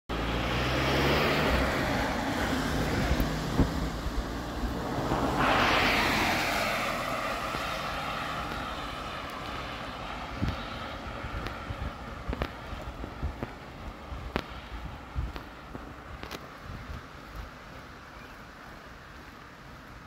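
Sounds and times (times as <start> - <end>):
car tyres hissing on wet road: 0.1 - 20.0.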